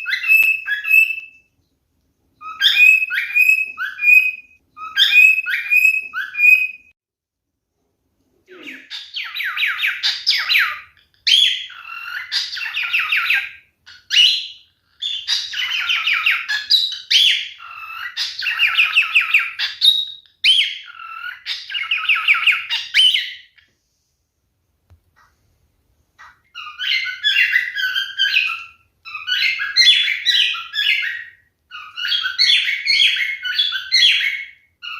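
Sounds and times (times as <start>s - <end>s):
cockatiel whistling and warbling: 0.0s - 1.5s, 2.4s - 6.9s, 8.5s - 23.6s, 26.2s - 34.9s.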